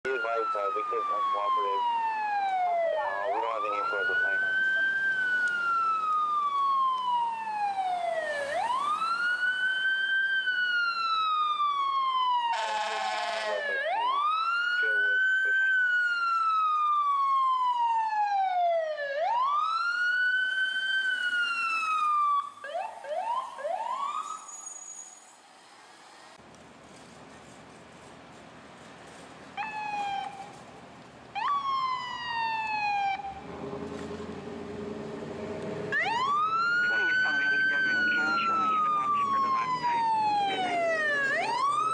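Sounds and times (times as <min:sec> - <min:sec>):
fire engine siren wailing: 0:00.0 - 0:26.4, 0:29.6 - 0:30.6, 0:31.3 - 0:41.9.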